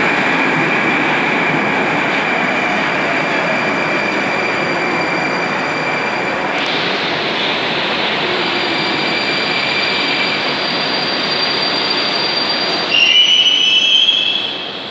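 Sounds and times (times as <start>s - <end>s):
train wheel and running noise: 0.0s - 14.9s.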